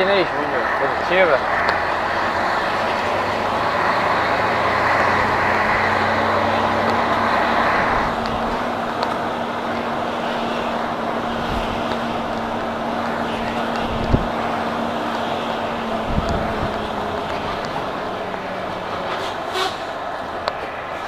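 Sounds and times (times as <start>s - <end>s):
road noise inside cab: 0.0s - 21.0s
truck engine running: 0.0s - 21.0s.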